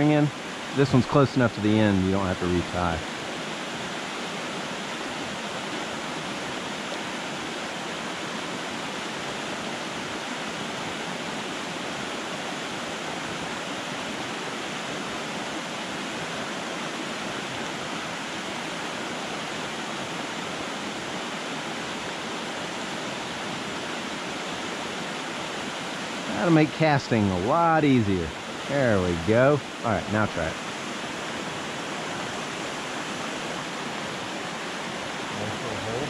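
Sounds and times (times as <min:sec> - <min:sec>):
creek rushing over rocks: 0:00.0 - 0:36.0.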